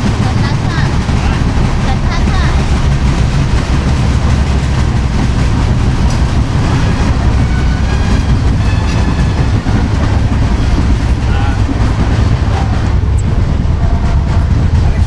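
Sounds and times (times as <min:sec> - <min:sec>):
trains rushing past: 0:00.0 - 0:15.0.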